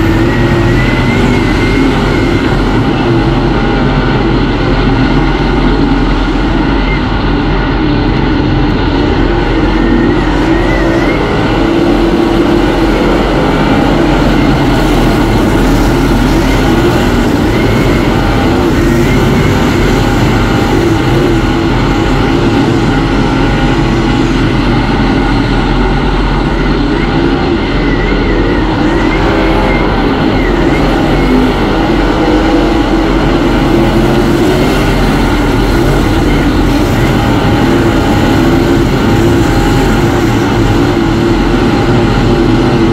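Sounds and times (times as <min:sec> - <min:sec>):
race car engine running hard: 0:00.0 - 0:42.9.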